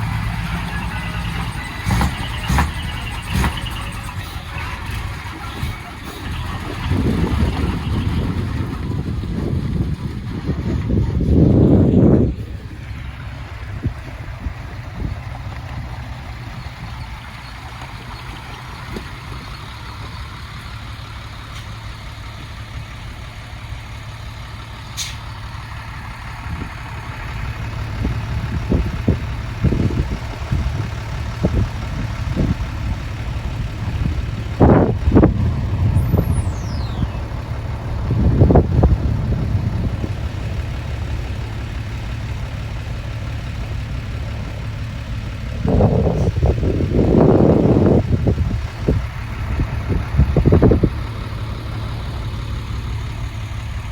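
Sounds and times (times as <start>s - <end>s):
diesel truck engines running: 0.0s - 53.9s.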